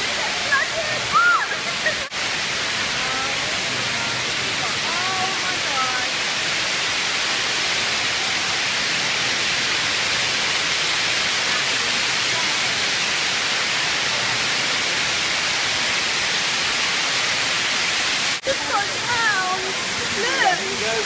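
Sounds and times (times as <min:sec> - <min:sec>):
torrential rain pouring: 0:00.0 - 0:21.0.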